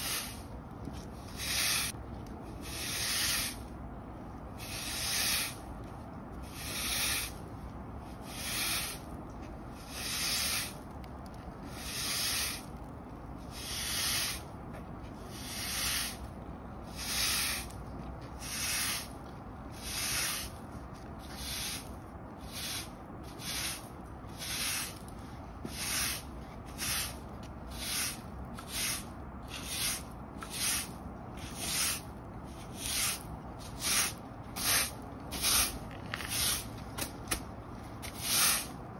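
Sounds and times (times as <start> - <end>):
push broom sweeping concrete: 0.0 - 3.7, 4.6 - 5.6, 6.4 - 7.4, 8.1 - 9.1, 9.7 - 10.8, 11.7 - 14.5, 15.2 - 20.6, 21.2 - 38.8.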